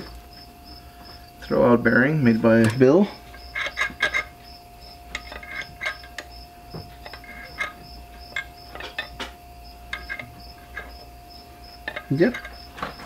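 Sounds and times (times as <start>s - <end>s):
faint steady hum: 0.0s - 13.0s
insect chirping: 0.0s - 13.0s.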